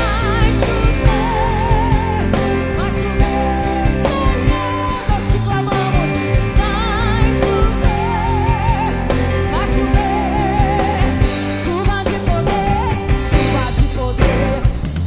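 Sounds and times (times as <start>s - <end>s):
lead melody with wide vibrato: 0.0s - 14.7s
gospel worship song with band: 0.0s - 15.0s.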